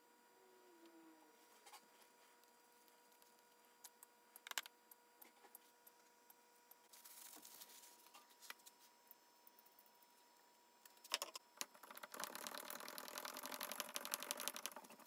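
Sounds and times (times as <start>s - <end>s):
steady high hum: 0.0s - 15.0s.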